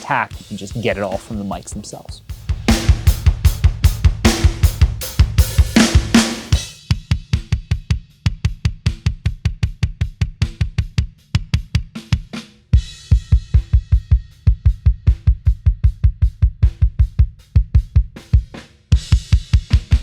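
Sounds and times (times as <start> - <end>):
fast double kick drum: 0.4 - 20.0.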